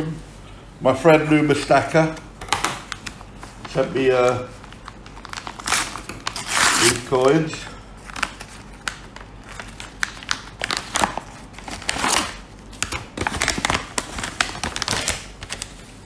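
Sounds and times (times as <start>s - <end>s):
paper mailer crinkling: 2.9s - 16.0s.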